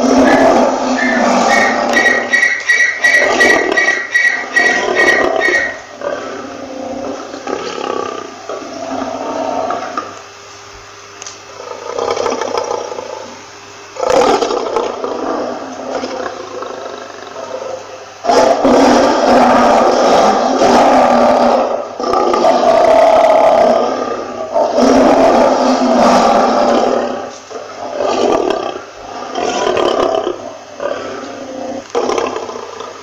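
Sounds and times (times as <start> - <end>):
lion roaring: 0.0 - 10.2, 11.6 - 13.4, 14.0 - 33.0
lion rough calls: 0.0 - 10.2, 14.0 - 33.0.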